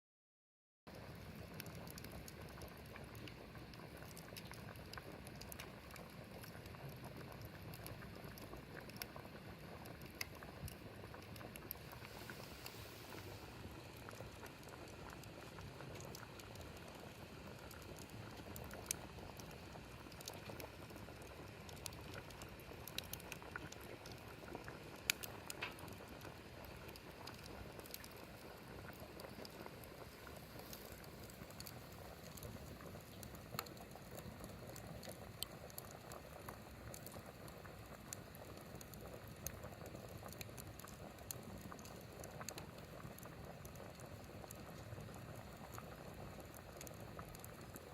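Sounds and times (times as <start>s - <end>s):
water boiling in a pot: 0.9s - 47.9s
burning wood crackling: 1.1s - 47.9s.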